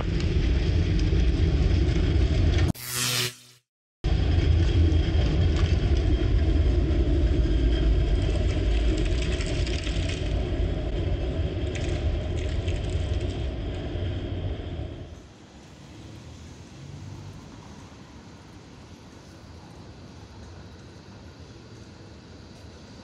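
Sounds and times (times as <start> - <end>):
tram wheels rumbling on rails: 0.0 - 2.7, 4.1 - 23.0.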